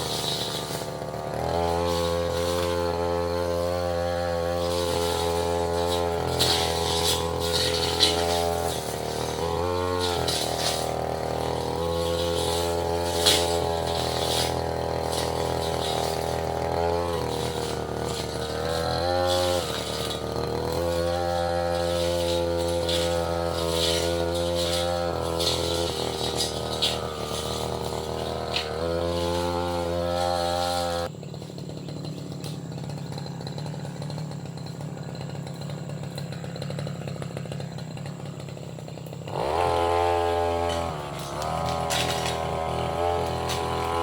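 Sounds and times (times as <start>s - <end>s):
brush cutter running: 0.0s - 44.0s.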